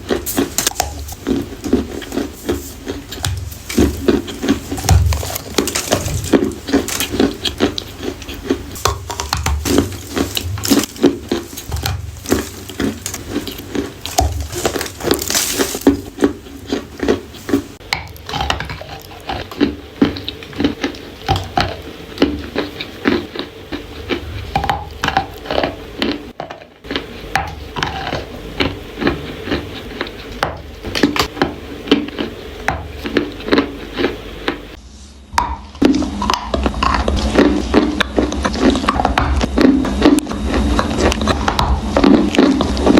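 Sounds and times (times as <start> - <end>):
crisp crunching and chewing: 0.0 - 34.8, 35.8 - 42.9.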